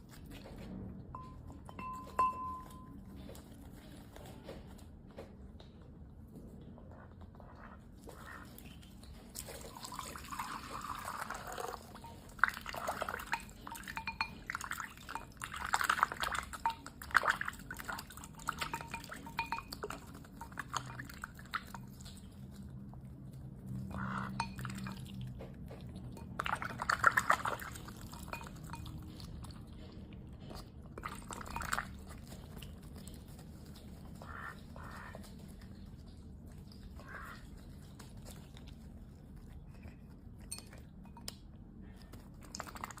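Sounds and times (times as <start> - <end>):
duck splashing and slurping water: 7.0 - 43.0.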